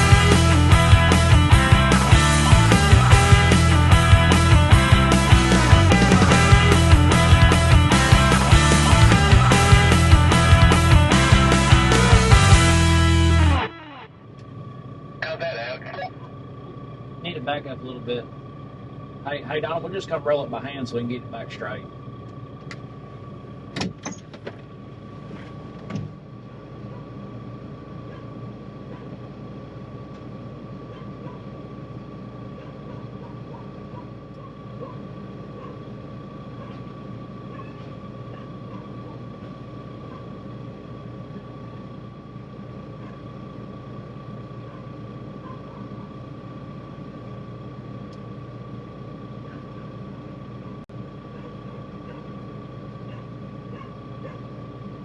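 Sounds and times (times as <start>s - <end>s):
constant high whine: 0.0s - 55.0s
diesel engine running: 0.0s - 55.0s.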